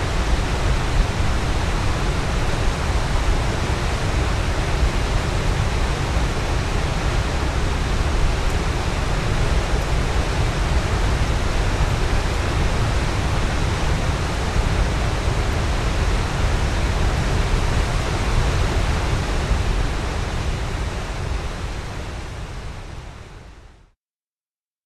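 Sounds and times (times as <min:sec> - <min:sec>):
waterfall roaring: 0:00.0 - 0:23.6.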